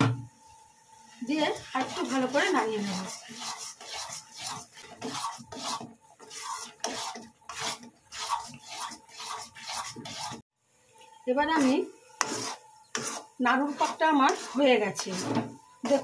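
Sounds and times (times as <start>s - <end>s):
metal spatula scraping a metal pan: 1.3s - 10.4s, 11.4s - 16.0s.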